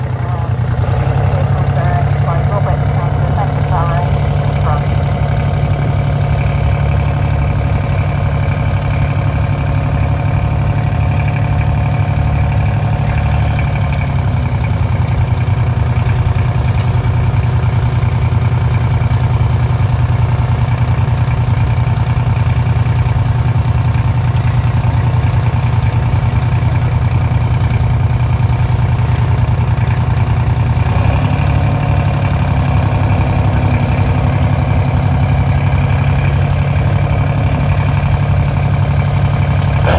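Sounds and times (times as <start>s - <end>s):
tractor engine idling loudly: 0.0s - 39.9s.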